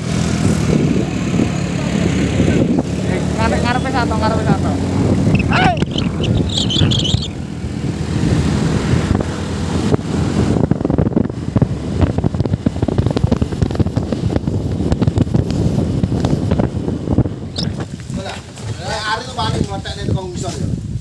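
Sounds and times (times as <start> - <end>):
motorcycle engines running: 0.0 - 20.4
wind rumbling on microphone: 0.0 - 21.0.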